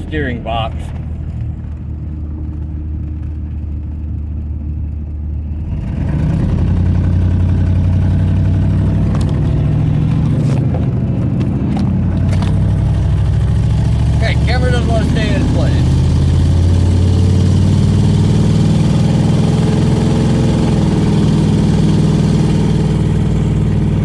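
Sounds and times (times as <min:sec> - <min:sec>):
car engine running while driving: 0:00.0 - 0:24.0.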